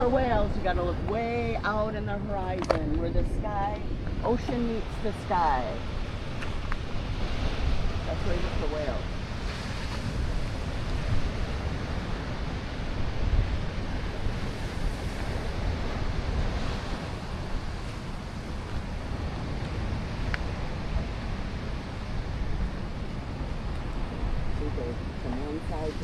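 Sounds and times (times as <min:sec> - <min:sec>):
ocean surf washing ashore: 0:00.0 - 0:26.0
wind rumbling on microphone: 0:00.0 - 0:26.0.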